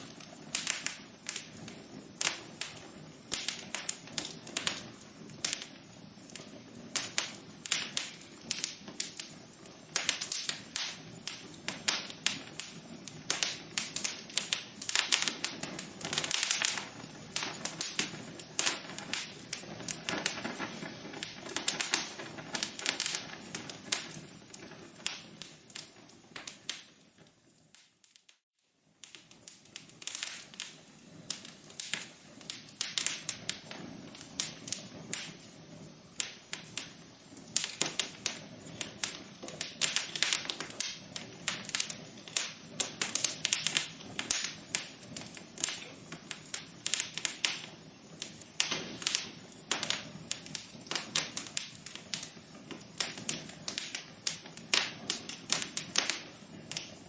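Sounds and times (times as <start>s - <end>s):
low hiss: 0.0s - 57.0s
wood fire crackling: 0.0s - 57.0s.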